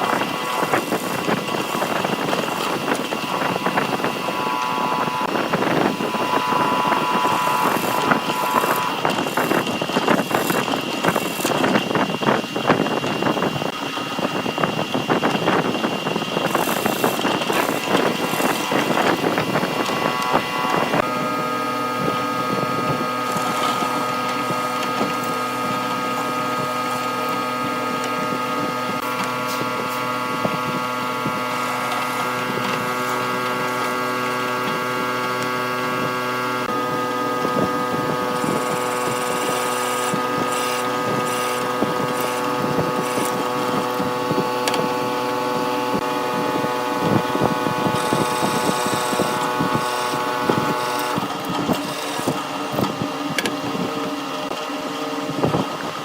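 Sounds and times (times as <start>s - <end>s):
power tool cutting wood: 0.0s - 56.0s
steady motor hum: 0.0s - 56.0s.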